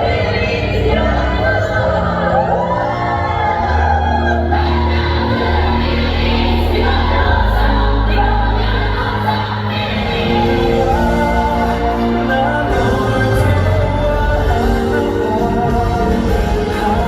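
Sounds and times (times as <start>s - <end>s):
many voices singing together: 0.0s - 17.0s
sustained bass line: 0.0s - 17.0s.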